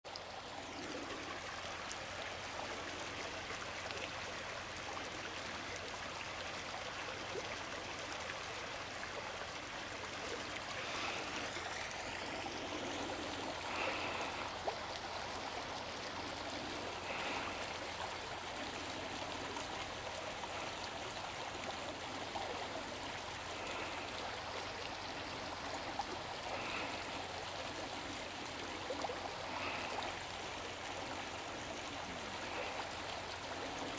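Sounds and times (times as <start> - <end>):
river water rushing: 0.3 - 33.9.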